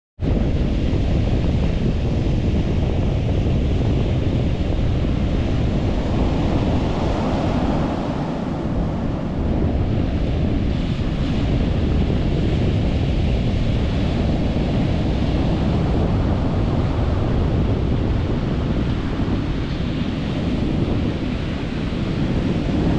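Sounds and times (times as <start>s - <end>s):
ocean surf breaking: 0.2s - 22.9s
wind buffeting microphone: 0.2s - 22.9s.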